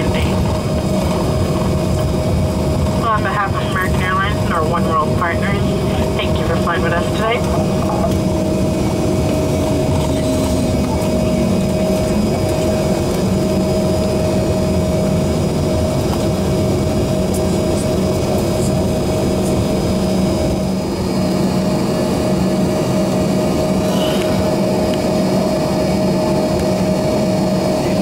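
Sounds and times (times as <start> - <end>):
jet engine rumble: 0.0 - 28.0
jet engine whine: 0.0 - 28.0.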